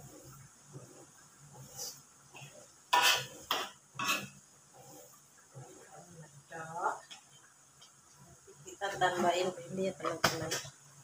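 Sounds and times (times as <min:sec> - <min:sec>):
gravy bubbling in a wok: 0:00.0 - 0:11.0.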